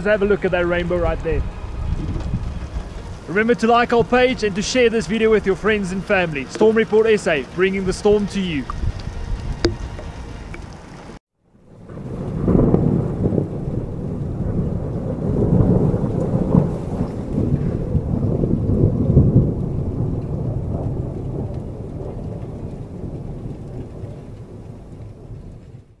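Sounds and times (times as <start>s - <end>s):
thunder rumbling: 0.0s - 26.0s.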